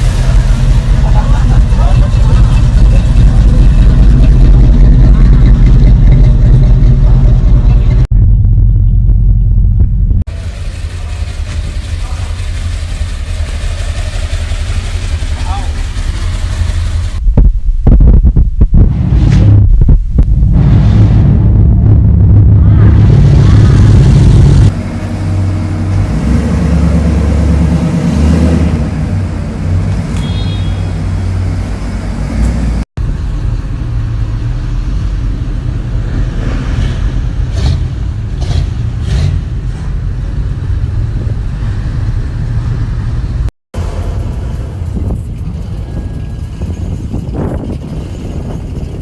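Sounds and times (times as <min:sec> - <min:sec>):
car engines rumbling: 0:00.0 - 0:49.0.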